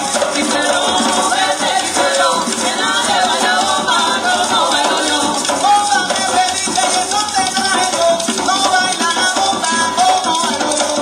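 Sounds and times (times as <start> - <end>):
hand drums playing: 0.0 - 11.0
maraca shaking: 0.0 - 11.0
person singing: 0.0 - 11.0.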